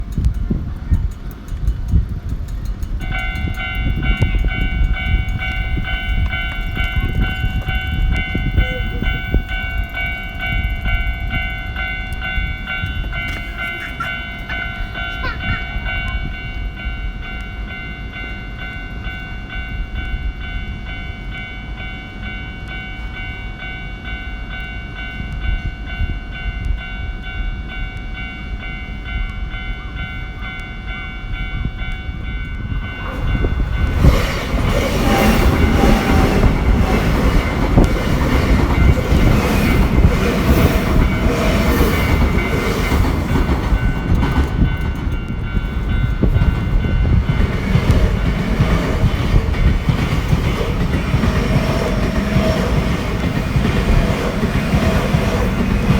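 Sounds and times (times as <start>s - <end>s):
level crossing warning bell: 0.0s - 55.9s
train rumbling over crossing: 0.0s - 55.9s.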